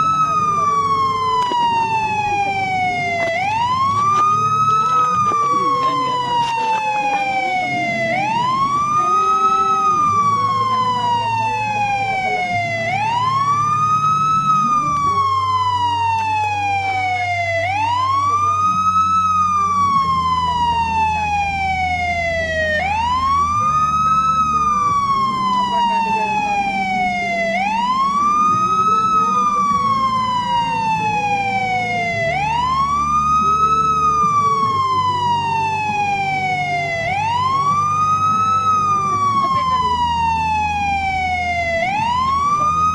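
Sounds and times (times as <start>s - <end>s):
police siren wailing: 0.0s - 42.9s.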